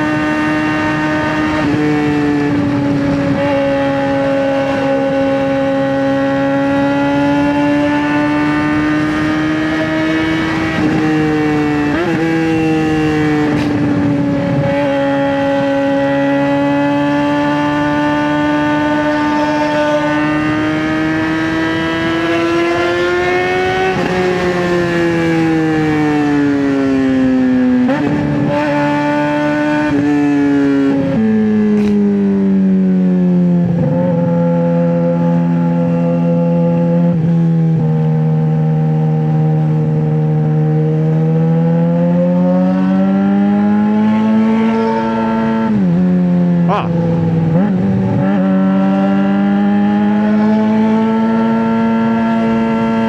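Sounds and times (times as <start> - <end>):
motorcycle engine high-revving drone: 0.0 - 53.0.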